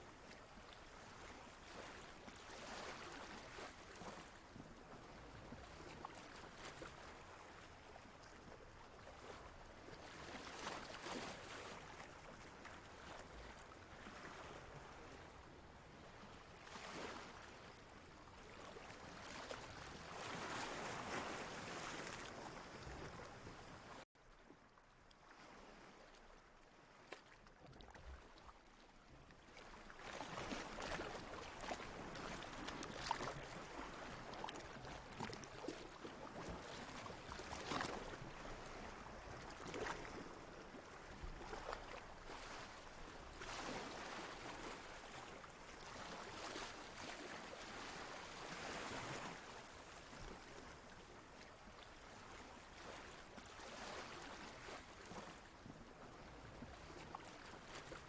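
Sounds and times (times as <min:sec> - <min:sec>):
water lapping and sloshing: 0:00.0 - 0:58.0.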